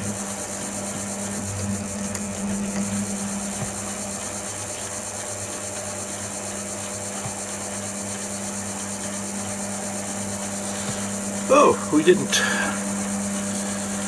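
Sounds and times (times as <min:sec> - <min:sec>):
lathe motor and gear hum: 0:00.0 - 0:14.0.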